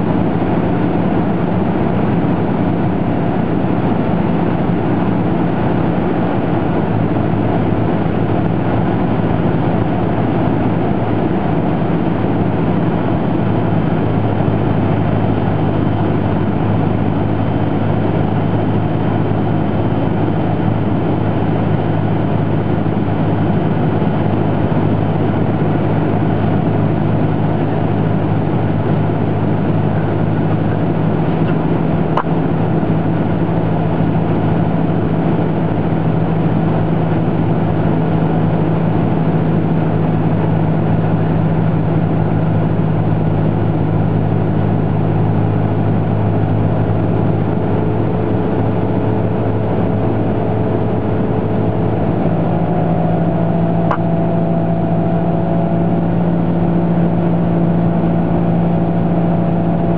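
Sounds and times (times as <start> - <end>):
aircraft engine and propeller droning: 0.0 - 59.9.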